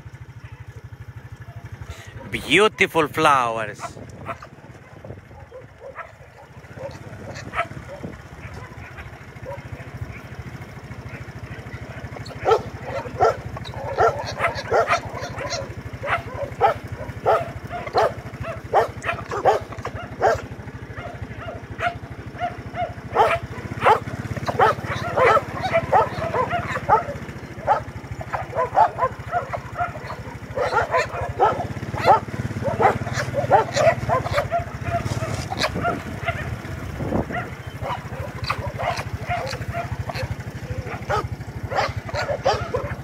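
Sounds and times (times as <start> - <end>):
dogs barking and yipping: 0.0 - 2.3, 3.9 - 43.0.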